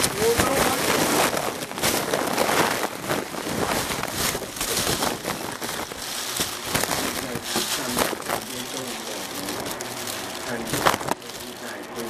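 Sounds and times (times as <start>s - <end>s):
dense crackling and rustling: 0.0s - 12.0s.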